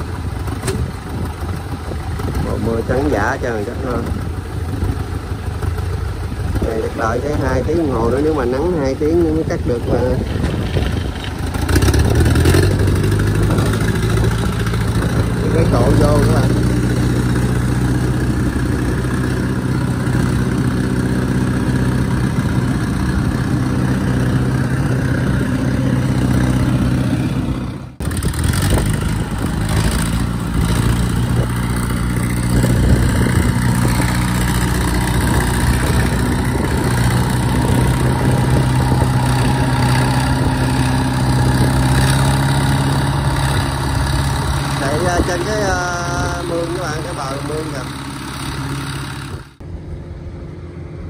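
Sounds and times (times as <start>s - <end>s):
tracked cart engine running: 0.0s - 51.0s.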